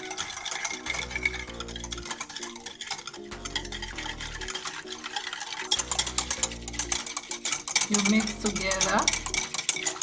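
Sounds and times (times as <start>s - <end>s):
background music with low notes: 0.0s - 10.0s
spoon stirring with scraping clicks: 0.0s - 10.0s.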